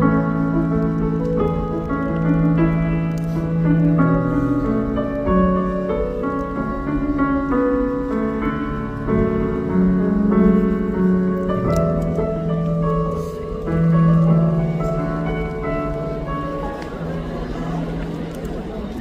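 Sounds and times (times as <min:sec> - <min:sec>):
piano music with held notes: 0:00.0 - 0:19.0.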